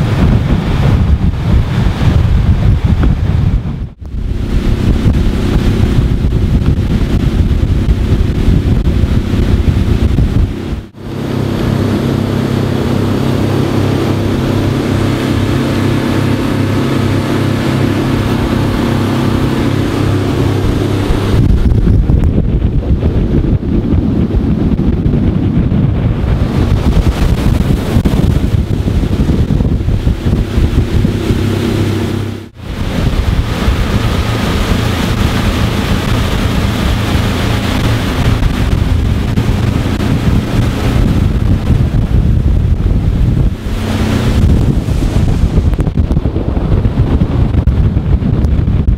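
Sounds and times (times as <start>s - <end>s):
boat engine droning: 0.0s - 48.9s
wind buffeting microphone: 0.0s - 48.9s.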